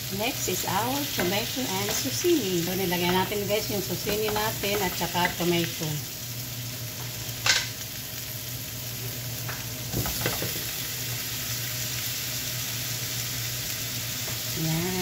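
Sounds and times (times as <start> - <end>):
zucchini sizzling in a pan: 0.0 - 15.0.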